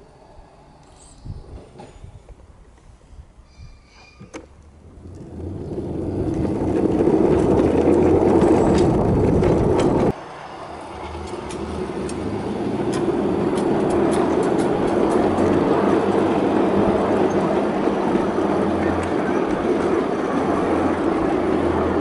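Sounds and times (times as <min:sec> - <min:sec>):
approaching railbus rumble: 0:00.0 - 0:22.0
wheels rolling on steel rails: 0:03.5 - 0:22.0.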